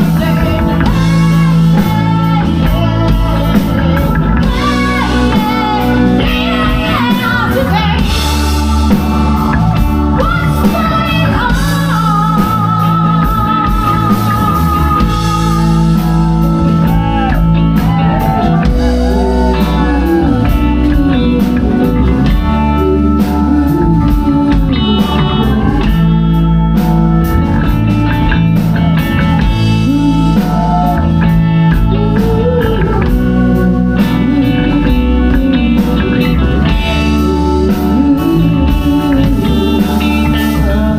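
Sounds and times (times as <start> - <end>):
blues-rock band playing: 0.0 - 40.9
lead electric guitar bending notes: 0.0 - 40.9.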